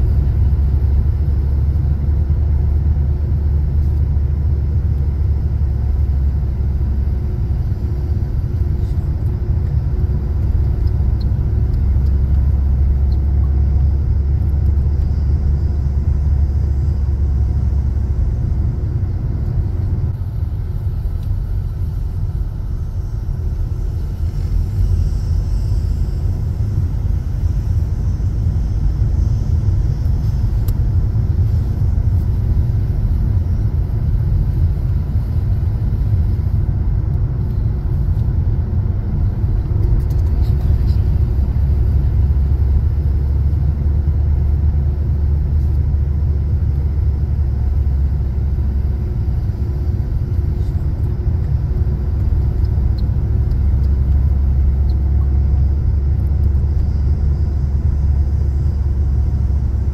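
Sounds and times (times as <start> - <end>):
road and engine rumble in car: 0.0 - 59.9.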